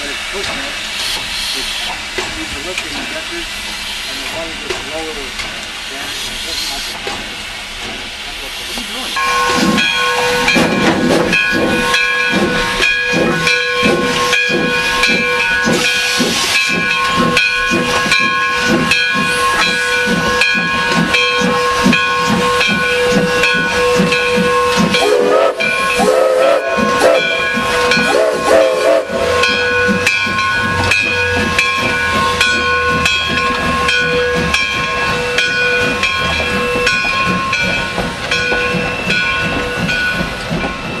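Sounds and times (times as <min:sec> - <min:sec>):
steady steam hiss: 0:00.0 - 0:41.0
steam locomotive exhaust chuffs: 0:00.0 - 0:41.0.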